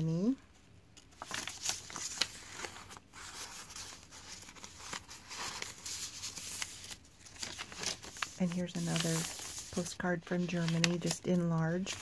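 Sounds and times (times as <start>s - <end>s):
paper cards rustling and sliding: 1.0s - 12.0s.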